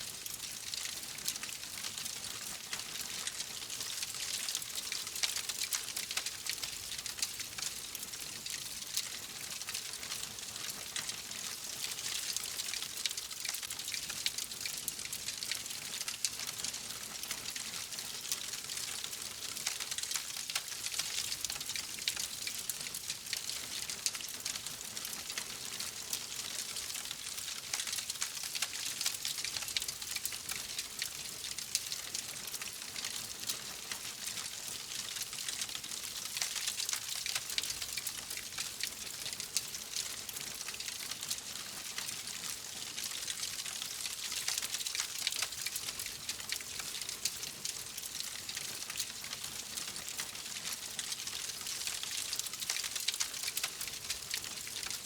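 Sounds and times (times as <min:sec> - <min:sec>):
fireplace fire crackling: 0:00.1 - 0:55.0.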